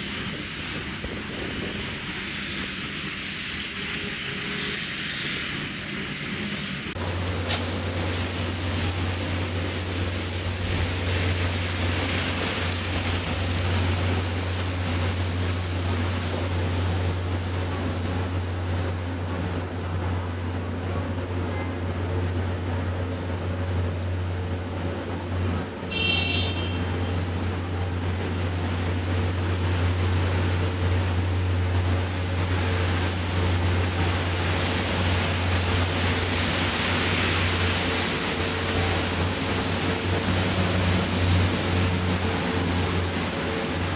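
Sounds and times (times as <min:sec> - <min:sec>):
low street rumble: 0:00.0 - 0:43.9
traffic hiss: 0:00.0 - 0:43.9
tyres swishing on wet snow: 0:00.0 - 0:43.9.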